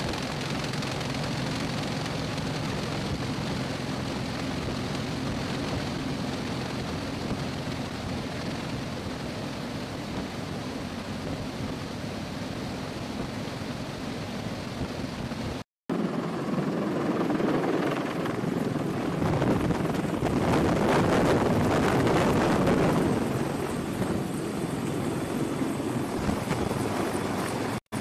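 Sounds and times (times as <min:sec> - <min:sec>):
helicopter rotor wash and blade chop: 0:00.0 - 0:28.0
helicopter rushing noise: 0:00.0 - 0:28.0
wind: 0:00.0 - 0:28.0.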